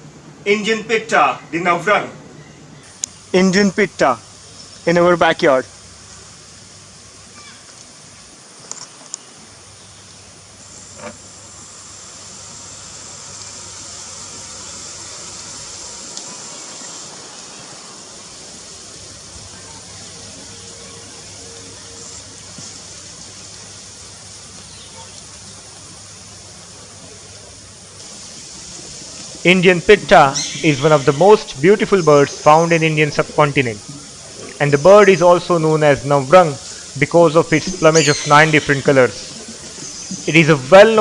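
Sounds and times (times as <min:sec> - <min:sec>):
insects buzzing: 0:00.0 - 0:41.0.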